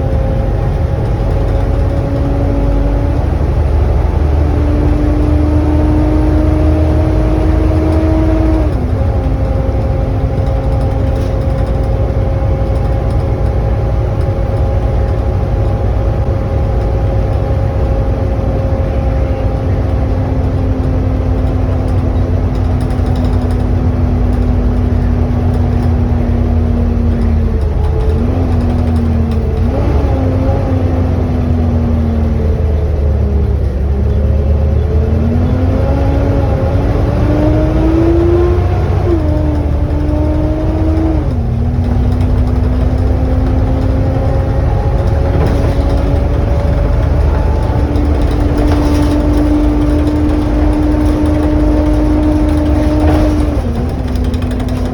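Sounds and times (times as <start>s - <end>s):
bus engine running: 0.0s - 54.9s.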